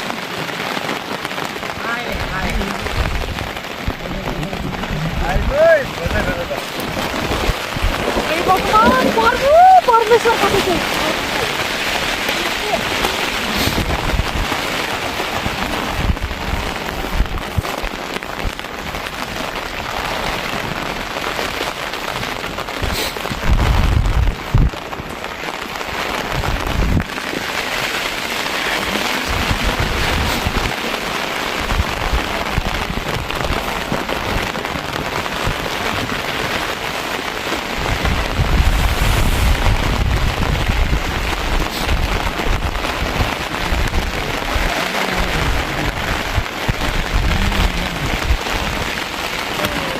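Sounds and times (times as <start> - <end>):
heavy rain falling: 0.0 - 49.9
low rumbles: 1.6 - 49.9.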